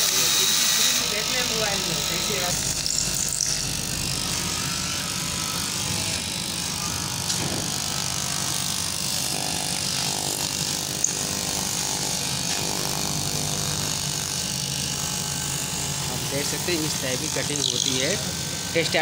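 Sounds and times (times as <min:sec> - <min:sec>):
cloth cutting machine running: 0:00.0 - 0:19.0.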